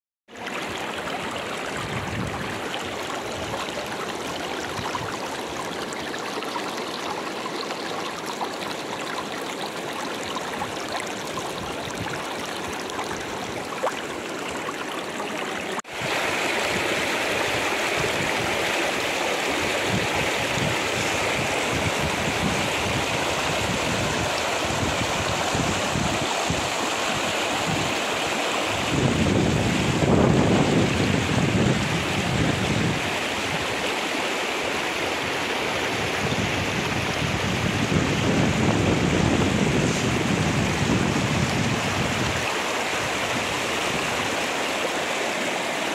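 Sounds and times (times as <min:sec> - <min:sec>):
river rushing over rocks: 0:00.3 - 0:45.9.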